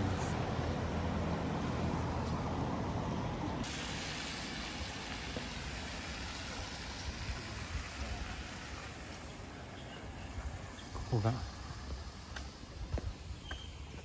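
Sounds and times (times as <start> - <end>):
minivan passing: 0.0 - 12.3
hiss of wet street: 0.0 - 14.0.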